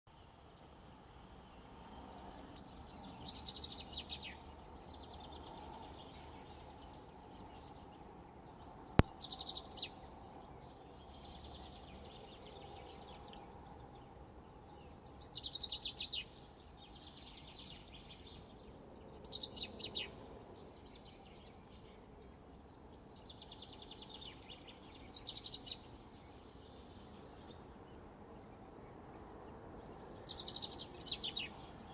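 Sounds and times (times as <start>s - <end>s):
songbird singing: 0.1s - 31.9s.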